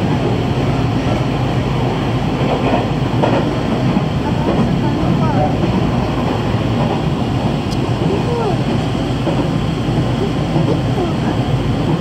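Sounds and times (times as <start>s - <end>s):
train rumble inside passenger car: 0.0s - 12.0s.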